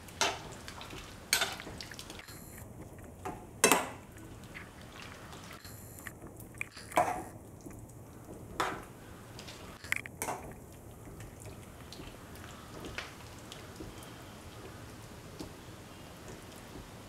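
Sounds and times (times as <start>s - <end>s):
spoon stirring wet food: 0.0s - 16.9s.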